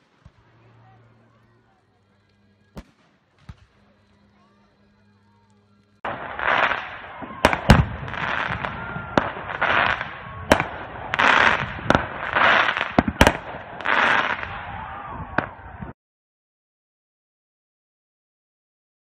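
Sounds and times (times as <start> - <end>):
fireworks bangs: 0.0 - 16.0
fireworks rushing crackle: 0.0 - 16.0.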